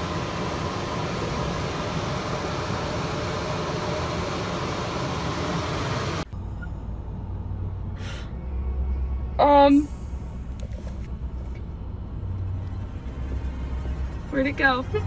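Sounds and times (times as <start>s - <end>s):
quiet low rumble: 0.0s - 15.0s.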